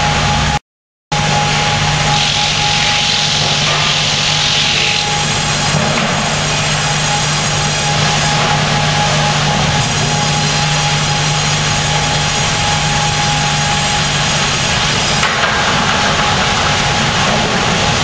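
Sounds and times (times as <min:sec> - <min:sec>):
machinery hum: 0:00.0 - 0:00.6, 0:01.2 - 0:18.0
band saw cutting log: 0:01.4 - 0:17.9.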